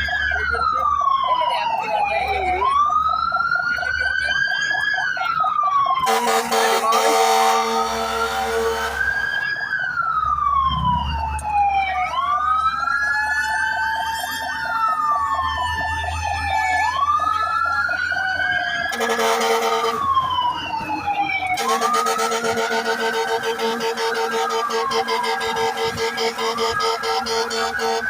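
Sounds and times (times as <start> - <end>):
fire truck sirens wailing: 0.0 - 28.0.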